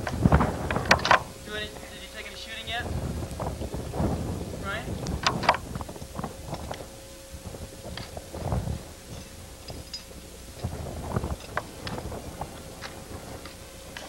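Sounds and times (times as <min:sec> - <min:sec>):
faint steady hum: 0:00.0 - 0:14.0
wind buffeting microphone: 0:00.0 - 0:14.0.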